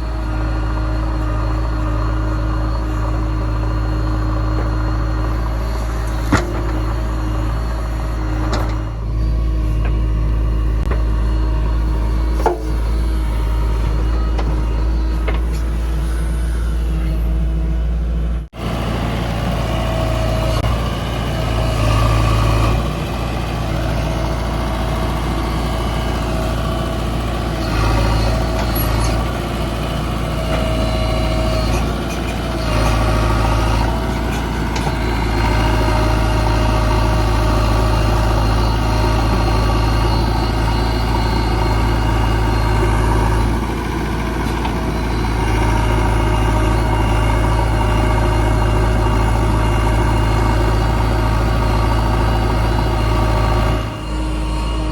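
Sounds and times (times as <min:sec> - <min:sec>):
diesel engine under load: 0:00.0 - 0:54.9.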